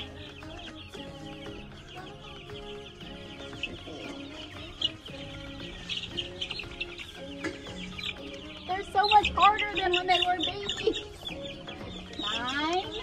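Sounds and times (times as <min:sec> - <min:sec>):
background music: 0:00.0 - 0:13.0
chicks peeping: 0:00.0 - 0:13.0.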